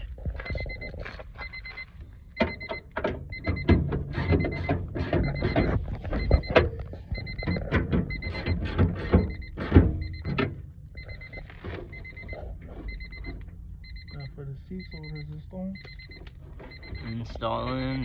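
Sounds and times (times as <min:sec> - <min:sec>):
car warning chime beeping: 0:00.4 - 0:18.0.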